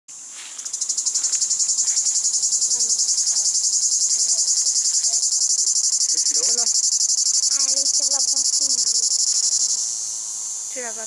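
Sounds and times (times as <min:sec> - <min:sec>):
cicada buzzing: 0:00.1 - 0:11.0.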